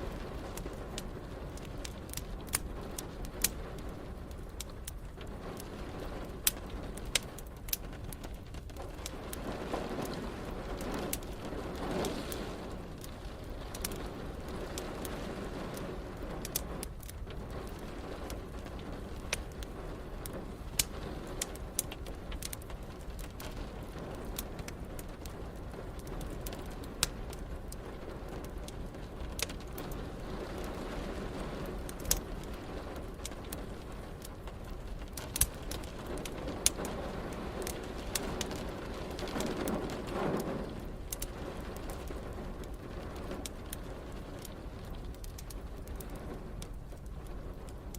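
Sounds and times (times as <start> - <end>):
rain hissing: 0.0 - 47.9
wood fire crackling and popping: 0.0 - 47.9.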